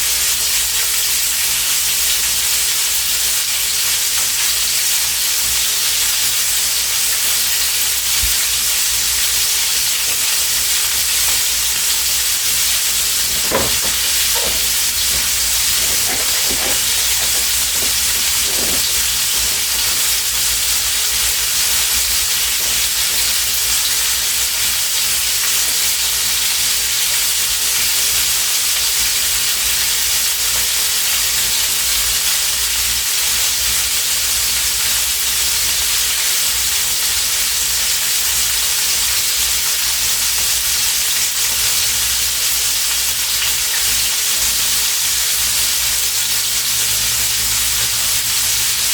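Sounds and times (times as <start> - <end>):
food frying in a pan: 0.0 - 48.9.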